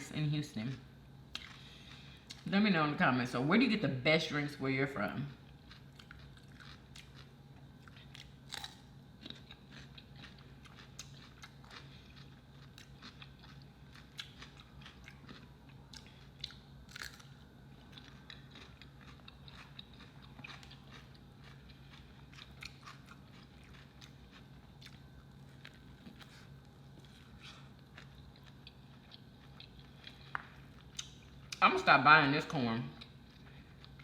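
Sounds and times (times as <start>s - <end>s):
person chewing food: 1.3s - 2.5s, 5.3s - 31.6s, 33.0s - 34.0s.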